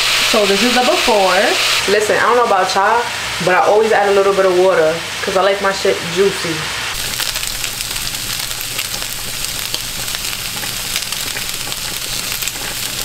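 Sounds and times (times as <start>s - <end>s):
chicken sizzling in a frying pan: 0.0s - 5.6s, 6.9s - 13.0s.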